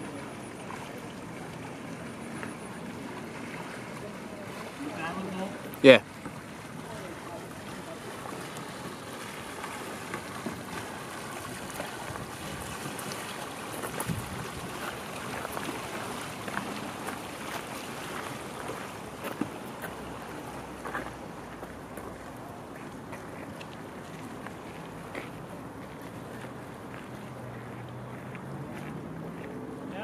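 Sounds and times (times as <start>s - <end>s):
kayak paddle splashing: 0.0s - 30.0s
river water rushing: 0.0s - 30.0s.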